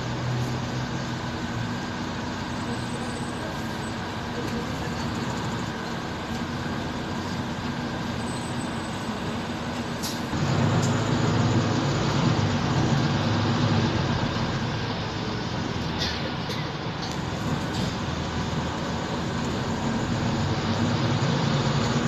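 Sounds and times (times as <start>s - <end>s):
bus engine and road drone: 0.0s - 22.0s.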